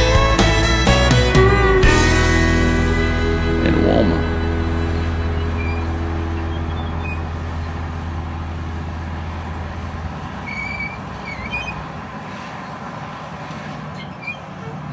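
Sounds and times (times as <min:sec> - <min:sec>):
bulldozer diesel engine running: 0:00.0 - 0:14.9.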